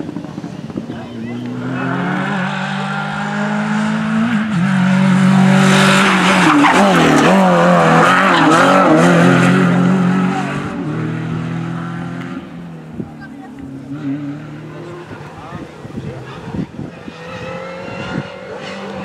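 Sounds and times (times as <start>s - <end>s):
loud tyre noise: 0.0s - 19.0s
rally car engine revving: 0.0s - 19.0s.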